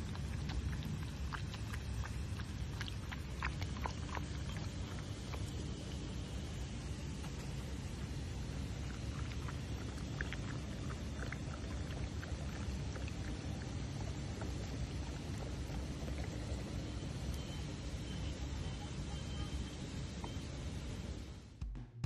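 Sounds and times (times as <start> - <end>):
dog lapping water: 0.0 - 19.6
steady low rumble: 0.0 - 21.6.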